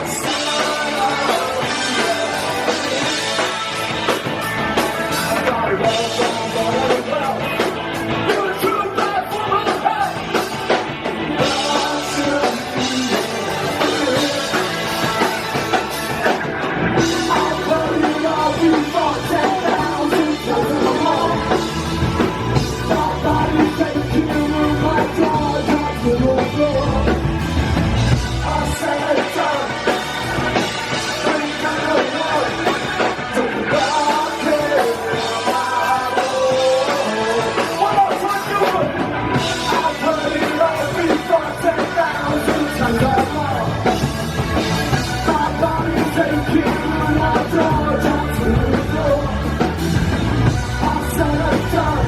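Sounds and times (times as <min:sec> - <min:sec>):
person singing: 0:00.0 - 0:04.0, 0:05.1 - 0:16.4, 0:17.0 - 0:27.3, 0:28.3 - 0:30.2, 0:31.0 - 0:44.1, 0:44.9 - 0:49.8, 0:50.4 - 0:52.0
drum kit: 0:00.0 - 0:52.0
electric guitars: 0:00.0 - 0:52.0.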